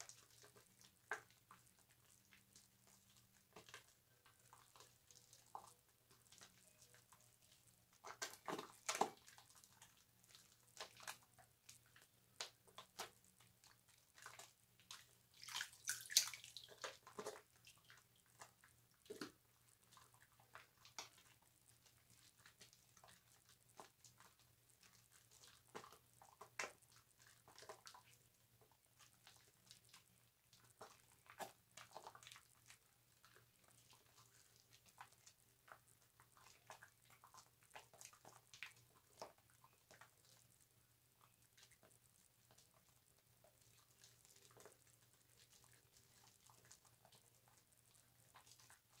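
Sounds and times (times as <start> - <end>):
wet squishing of soap suds: 0.0 - 49.0.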